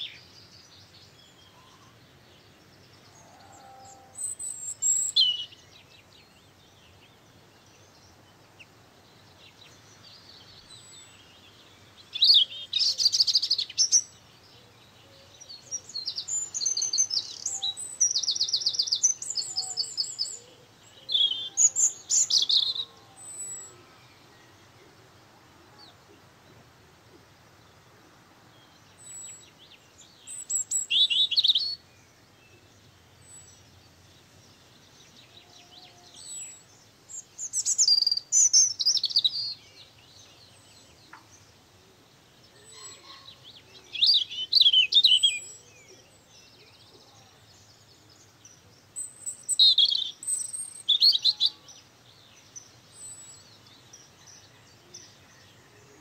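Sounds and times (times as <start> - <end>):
birds chirping and singing: 0.0 - 24.9, 28.6 - 56.0.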